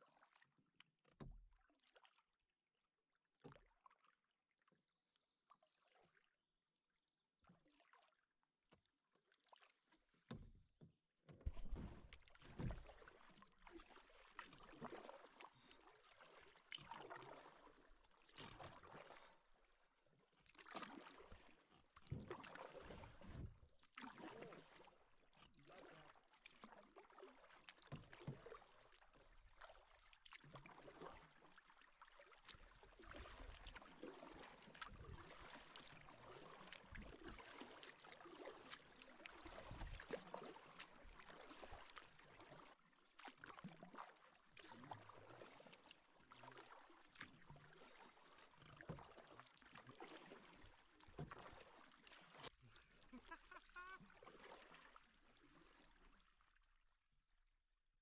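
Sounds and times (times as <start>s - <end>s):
paddle strokes in water: 0.0s - 2.4s, 3.2s - 57.0s.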